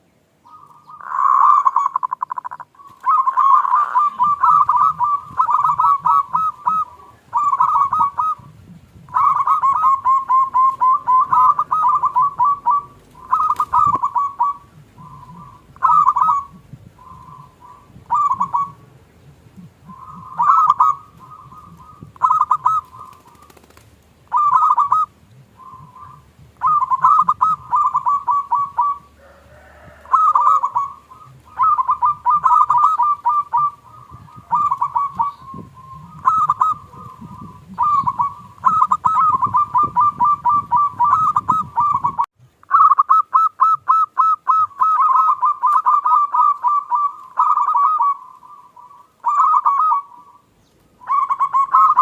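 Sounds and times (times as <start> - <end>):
doves cooing: 0.0 - 52.0.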